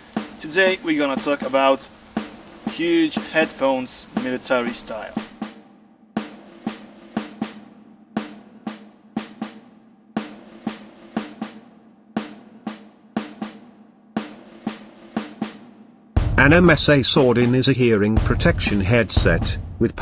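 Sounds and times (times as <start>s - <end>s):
drum beat: 0.0s - 20.0s.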